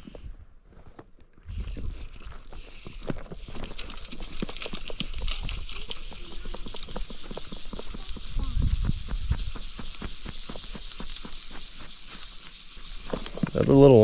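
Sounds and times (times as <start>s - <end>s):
fishing reel ratcheting clicks: 1.5s - 14.0s.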